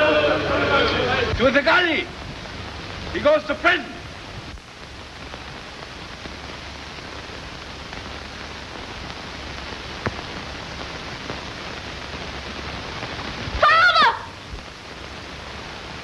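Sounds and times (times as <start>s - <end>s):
film soundtrack hiss: 0.0s - 16.0s.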